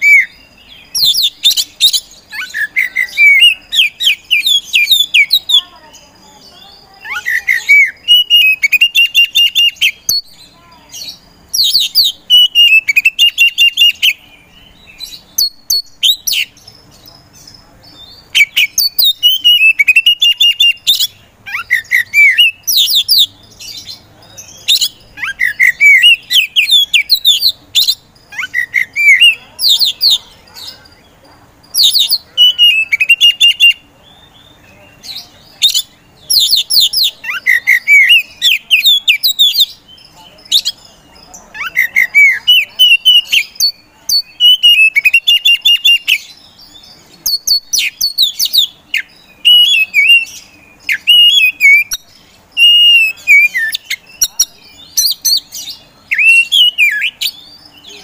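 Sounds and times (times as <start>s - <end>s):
bird singing chirps and whistles: 0.0s - 5.7s, 6.4s - 17.2s, 17.9s - 30.7s, 31.7s - 58.0s.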